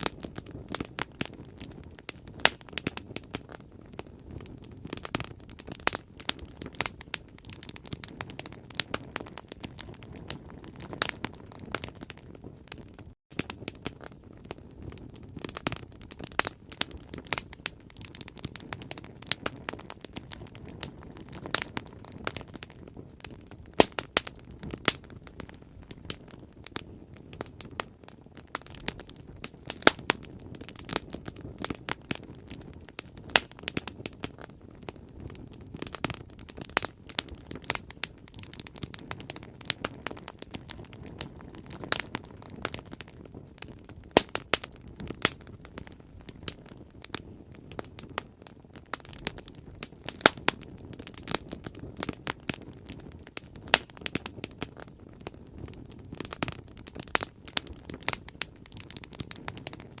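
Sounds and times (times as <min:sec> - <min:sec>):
soft rush of burning: 0:00.0 - 1:00.0
wood fire crackling and popping: 0:00.0 - 1:00.0.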